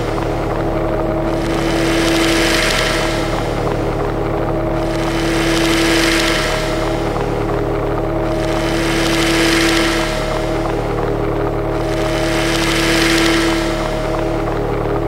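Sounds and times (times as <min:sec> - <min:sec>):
low hum with drone tone: 0:00.0 - 0:15.0.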